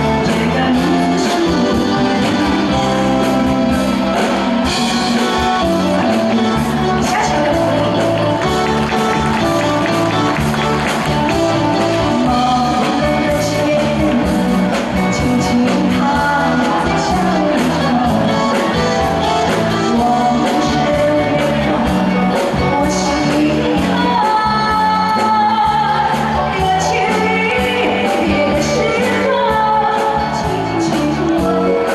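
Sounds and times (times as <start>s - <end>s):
live band playing: 0.0s - 31.9s
woman singing pop ballad: 0.0s - 31.9s.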